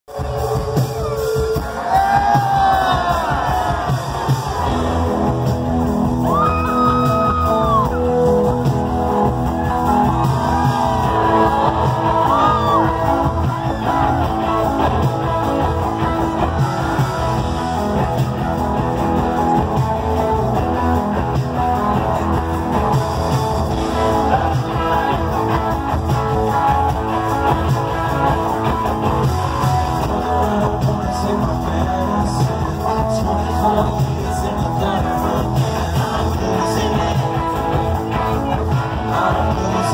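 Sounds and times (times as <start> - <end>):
electric guitar: 0.1 - 39.9
live rock band: 0.1 - 39.9
lead singer's voice: 0.2 - 28.7, 29.6 - 39.9.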